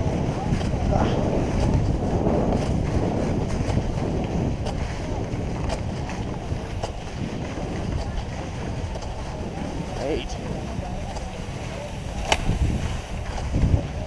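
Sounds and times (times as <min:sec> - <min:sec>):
skis sliding on snow: 0:00.0 - 0:14.0
wind on microphone: 0:00.0 - 0:14.0.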